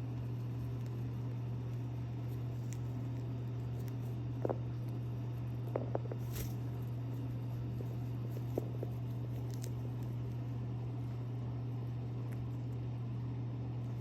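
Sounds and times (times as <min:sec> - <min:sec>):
parrot beak crunching food: 0:00.0 - 0:12.9
steady low hum: 0:00.0 - 0:14.0.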